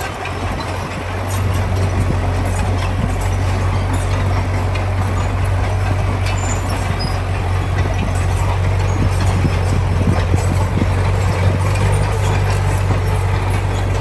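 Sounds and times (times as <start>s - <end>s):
heavy diesel engine humming: 0.0s - 14.0s
light clanks and rattles: 0.0s - 14.0s.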